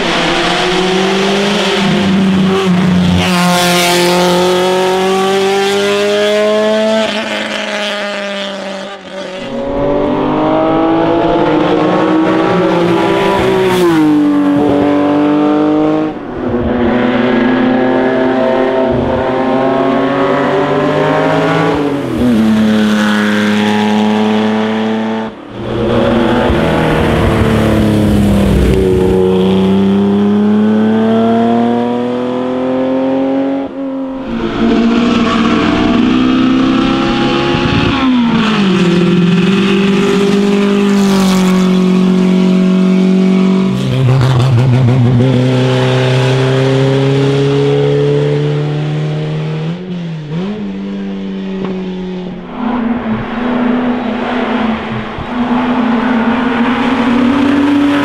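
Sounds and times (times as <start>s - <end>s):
racing car engines at full throttle: 0.0s - 58.0s.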